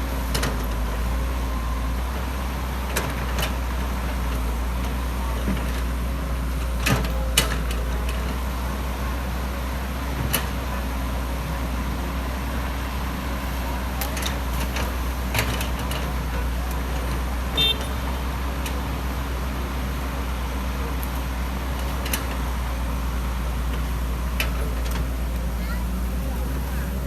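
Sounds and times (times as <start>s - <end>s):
excavator engine droning: 0.0s - 27.0s.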